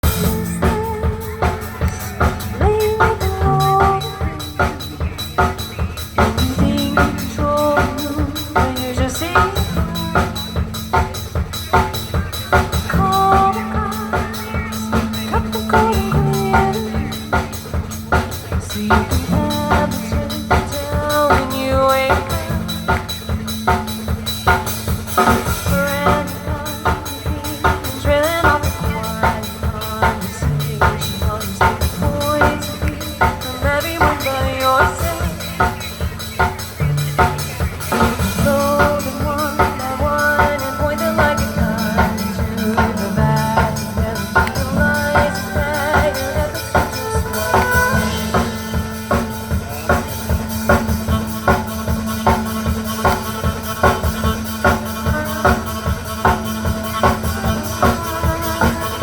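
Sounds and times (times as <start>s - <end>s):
drum kit beat: 0.0s - 59.0s
live band playing: 0.0s - 59.0s.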